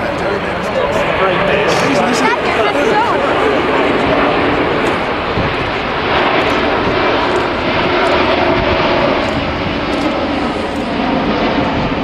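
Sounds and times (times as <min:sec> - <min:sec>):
jet airliner passing overhead: 0:00.0 - 0:12.0.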